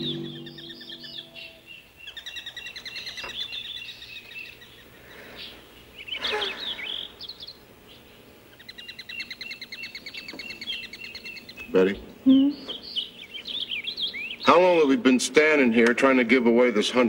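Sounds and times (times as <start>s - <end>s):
loud jumbled bird call: 0.0s - 15.3s
bird chirping trills: 0.0s - 15.6s.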